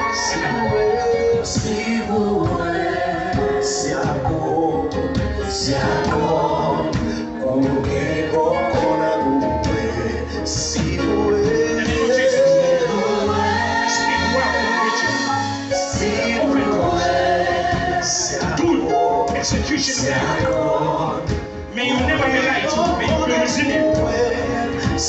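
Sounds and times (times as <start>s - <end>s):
backing singers: 0.0s - 25.0s
band with electric guitar and bass: 0.0s - 25.0s
man singing lead: 0.0s - 25.0s.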